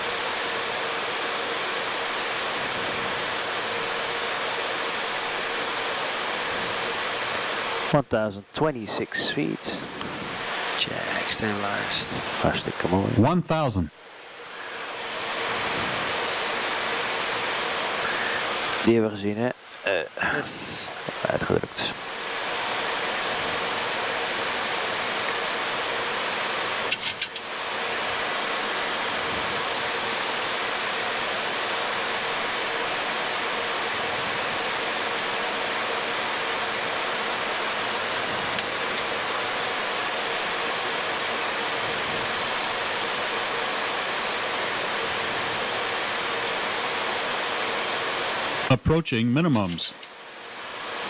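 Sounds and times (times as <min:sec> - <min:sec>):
airflow and engine noise: 0:00.0 - 0:51.0
faint steady hum: 0:00.0 - 0:51.0.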